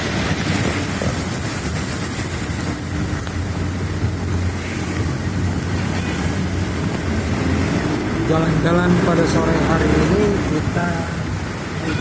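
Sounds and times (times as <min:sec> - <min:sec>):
road and wind noise: 0:00.0 - 0:12.0
vehicle engine hum: 0:00.0 - 0:12.0.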